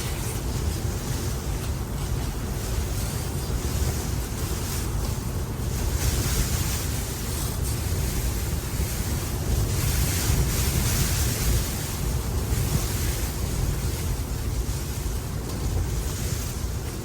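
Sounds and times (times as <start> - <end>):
blizzard wind gusting: 0.0 - 17.0
wind rumbling on microphone: 0.0 - 17.0.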